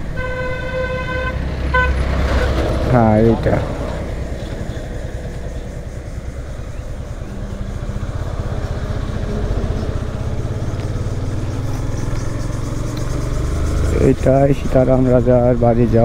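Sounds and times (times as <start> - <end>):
motorcycle engine running: 1.8 - 16.0.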